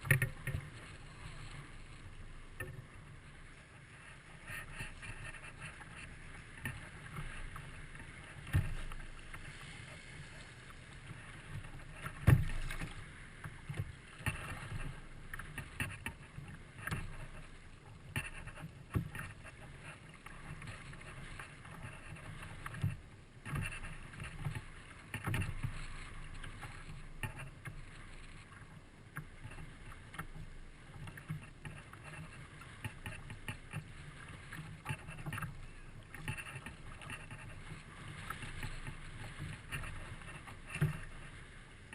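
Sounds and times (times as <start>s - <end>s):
water against hull: 0.0s - 41.9s.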